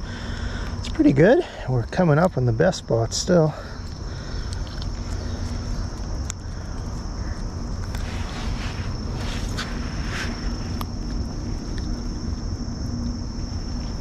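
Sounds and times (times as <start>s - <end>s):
constant high-pitched tone: 0.0s - 14.0s
low rumble and hiss: 0.0s - 14.0s.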